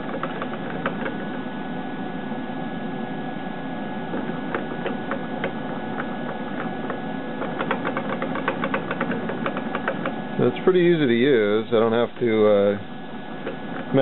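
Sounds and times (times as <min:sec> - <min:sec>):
lathe motor hum with whine: 0:00.0 - 0:14.0.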